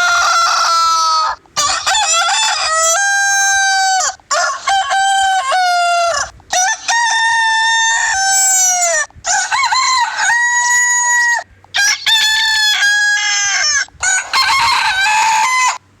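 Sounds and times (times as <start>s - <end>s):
rooster crowing: 0.0s - 15.8s.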